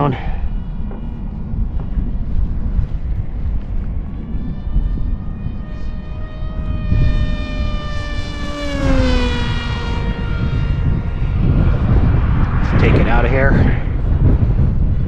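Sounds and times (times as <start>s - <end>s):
electric motor and propeller whining: 0.0s - 15.0s
wind rumble on microphone: 0.0s - 15.0s.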